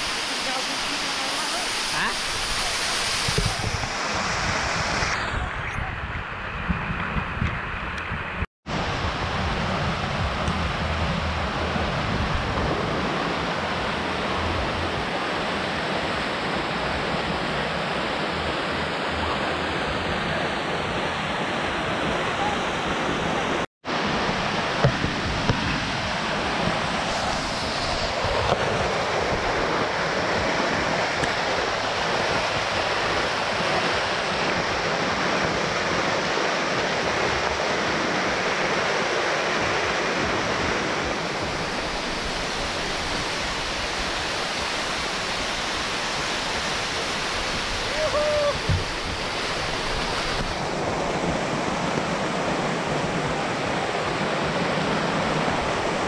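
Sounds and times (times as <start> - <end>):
water rushing over rocks: 0.0 - 5.7, 8.1 - 56.0.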